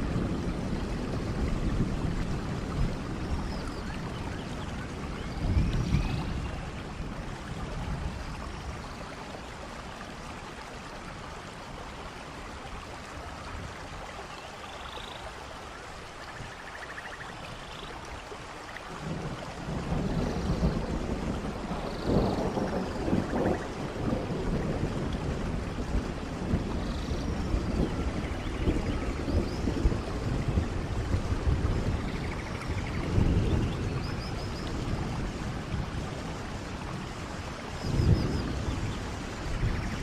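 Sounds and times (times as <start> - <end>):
rain falling: 0.0 - 40.0
waterfall rumbling: 0.0 - 40.0.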